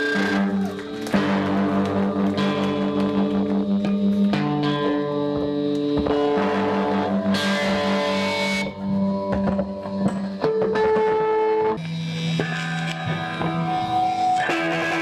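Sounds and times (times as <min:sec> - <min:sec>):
electric guitars droning: 0:00.0 - 0:15.0.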